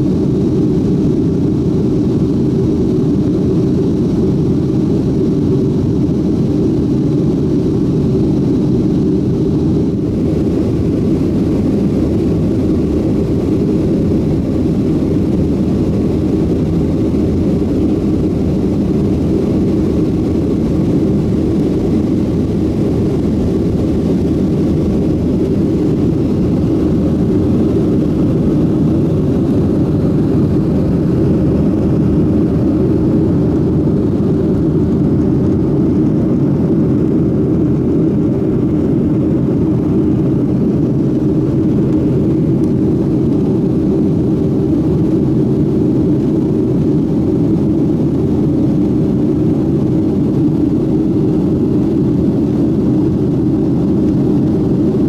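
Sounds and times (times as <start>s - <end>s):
jet cabin engine drone: 0.0s - 55.0s.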